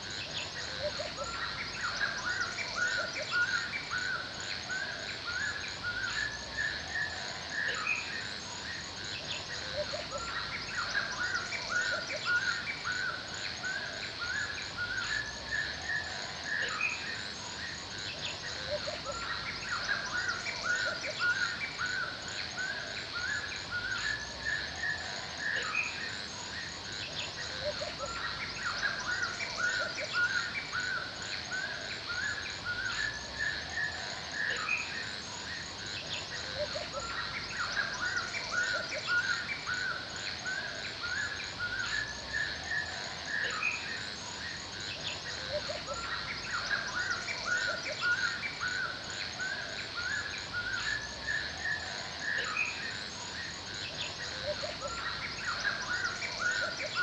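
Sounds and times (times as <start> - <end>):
birds singing and calling: 0.0 - 57.0
insects chirring: 0.0 - 57.0.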